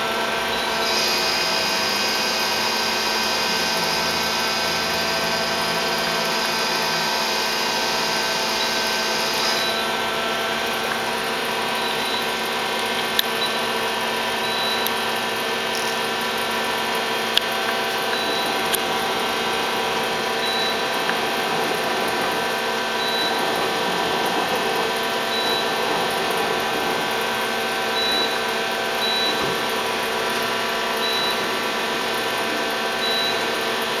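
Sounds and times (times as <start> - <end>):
machine whine and hum: 0.0 - 34.0.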